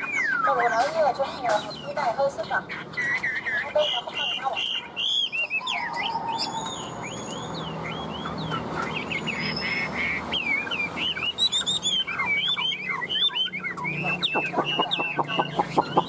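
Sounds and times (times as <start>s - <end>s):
bird singing whistled phrases: 0.0s - 0.9s, 2.7s - 16.0s.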